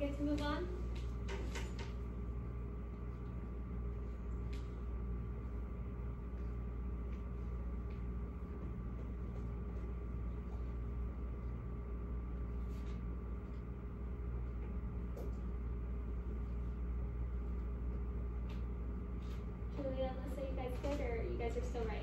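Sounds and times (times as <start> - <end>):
electrical hum of machinery: 0.0 - 22.0.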